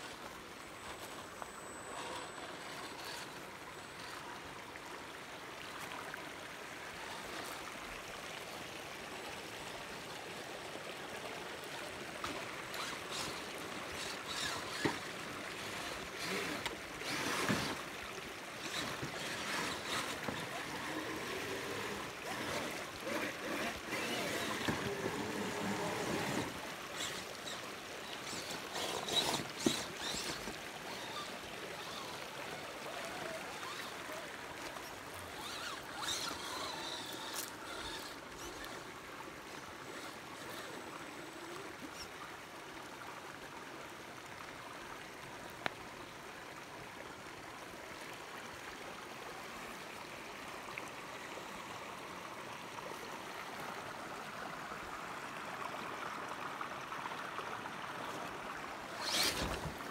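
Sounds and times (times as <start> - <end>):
creek running over stones: 0.0 - 59.9.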